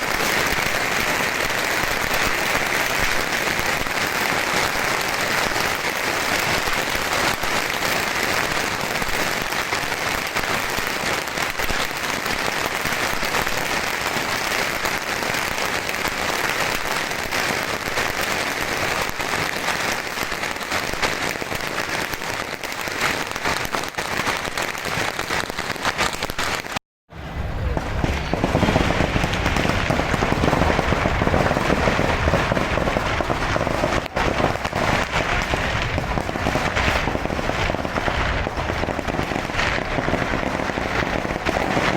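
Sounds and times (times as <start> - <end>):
fireworks crackle and hiss: 0.0 - 41.9.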